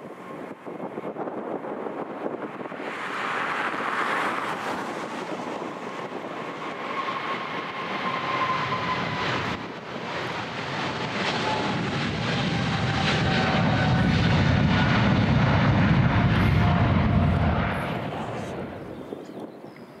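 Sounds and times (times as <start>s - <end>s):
jet engines roaring: 0.0s - 19.7s.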